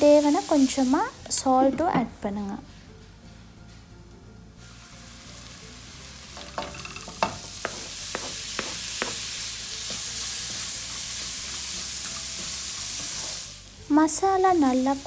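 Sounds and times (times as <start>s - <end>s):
masala sizzling in a wok: 0.0s - 1.7s, 4.5s - 15.0s.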